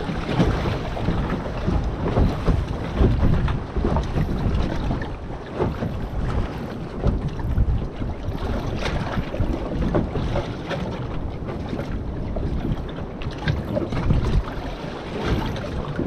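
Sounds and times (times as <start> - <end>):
water splashing against boat hull: 0.0 - 16.0
wind buffeting microphone: 0.0 - 16.0.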